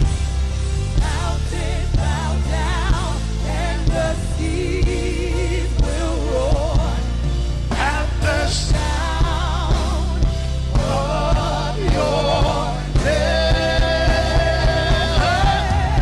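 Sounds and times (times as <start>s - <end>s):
bass and beat: 0.0s - 16.0s.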